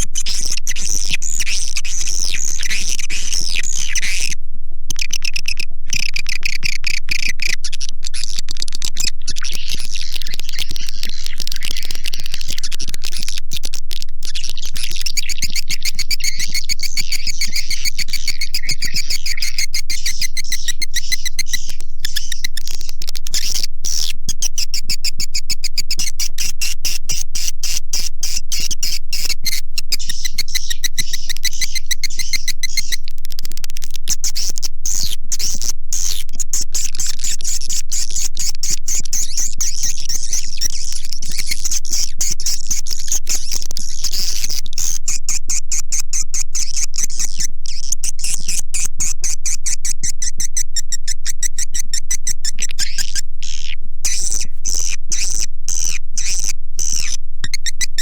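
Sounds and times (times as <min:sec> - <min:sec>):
swiftlets chirping and clicking: 0:04.9 - 0:45.1, 0:46.6 - 0:58.0.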